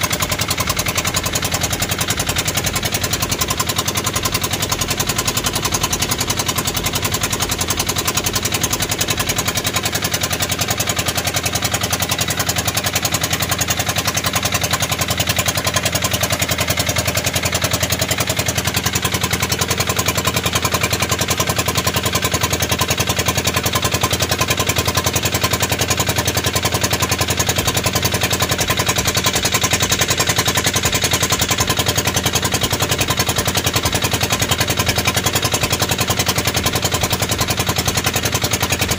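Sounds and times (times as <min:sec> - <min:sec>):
boat engine popping: 0:00.0 - 0:38.9.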